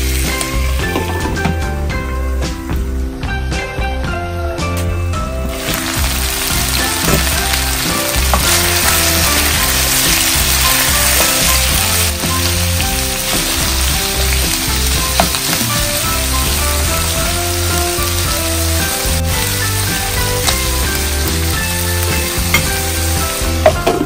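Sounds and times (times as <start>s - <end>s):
food sizzling in oil: 0.0s - 1.3s, 5.5s - 24.0s.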